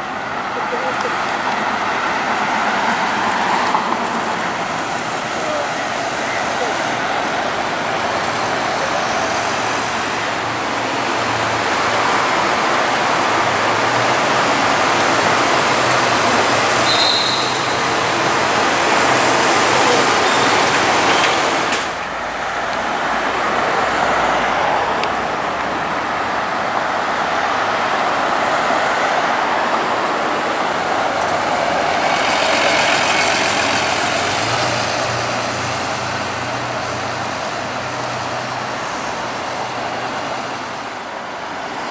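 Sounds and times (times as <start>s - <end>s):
buses driving past: 0.0s - 41.9s
road traffic: 0.0s - 41.9s.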